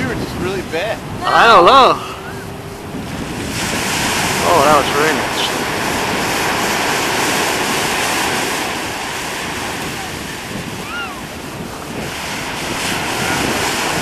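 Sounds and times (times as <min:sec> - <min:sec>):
choppy sea waves: 0:00.0 - 0:14.0
wind buffeting microphone: 0:00.0 - 0:14.0.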